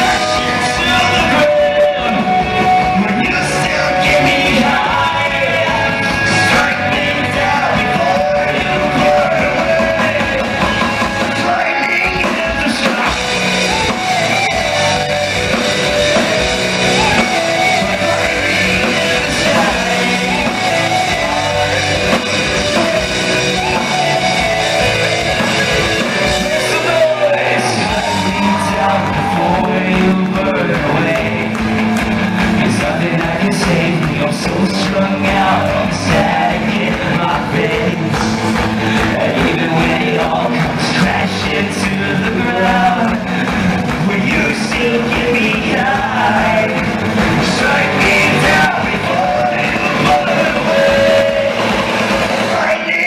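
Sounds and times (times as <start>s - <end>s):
hard rock band playing: 0.0s - 53.0s
person singing: 0.0s - 53.0s.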